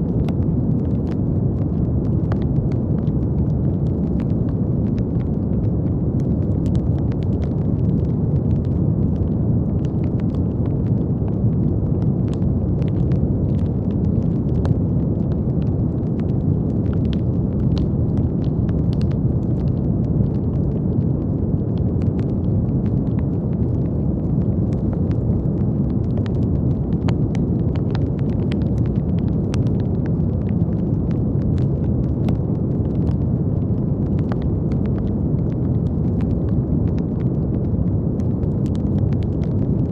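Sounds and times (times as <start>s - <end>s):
deep rushing brown noise: 0.0s - 39.9s.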